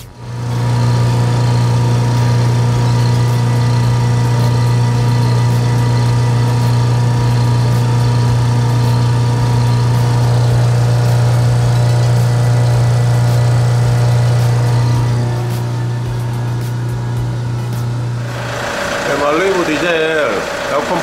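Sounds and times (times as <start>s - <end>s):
machine electric hum: 0.0s - 21.0s.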